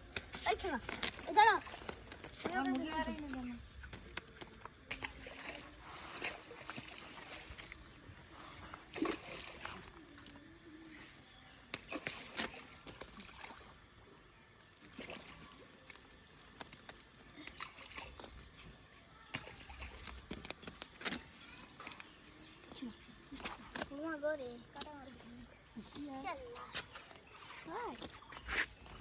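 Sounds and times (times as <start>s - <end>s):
pond water splashing: 0.0s - 29.0s.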